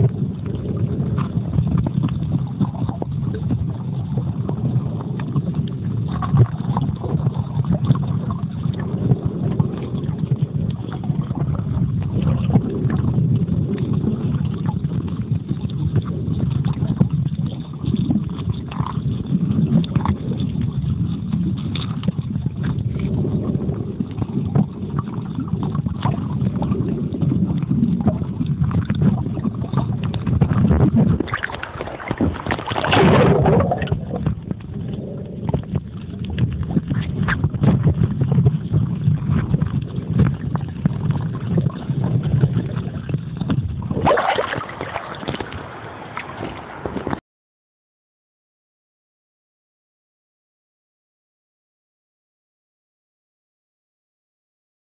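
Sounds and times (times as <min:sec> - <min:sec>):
rush of water: 0:00.0 - 0:47.2
small clicks and crackles: 0:00.0 - 0:47.2
underwater rumble: 0:00.0 - 0:47.2.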